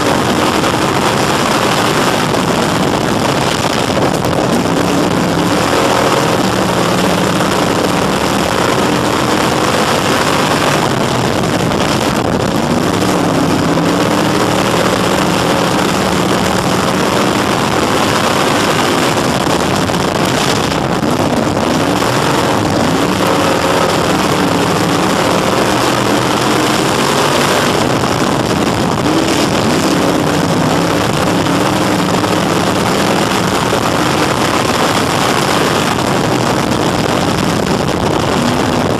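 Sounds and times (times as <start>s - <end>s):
race car engine at speed: 0.0s - 38.9s.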